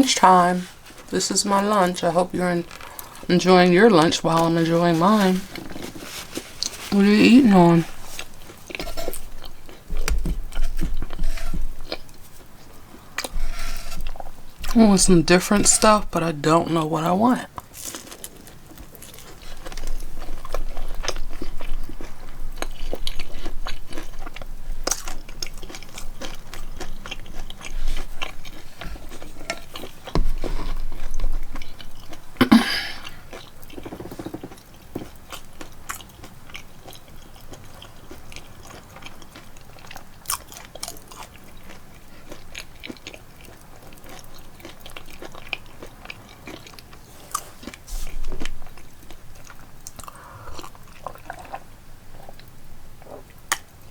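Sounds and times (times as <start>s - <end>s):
person chewing crunchy food: 0.6s - 16.1s, 17.5s - 53.8s.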